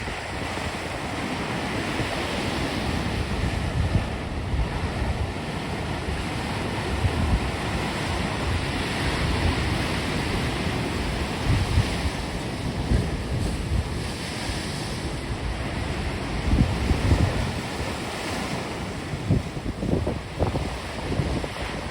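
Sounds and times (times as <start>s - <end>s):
waves breaking in surf: 0.0s - 21.9s
wind gusting on microphone: 0.0s - 21.9s.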